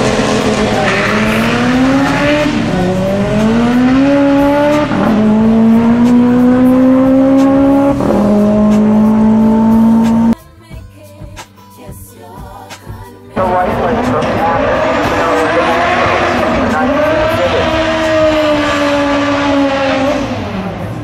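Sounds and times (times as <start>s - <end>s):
drag car accelerating: 0.0s - 10.4s, 13.4s - 21.0s.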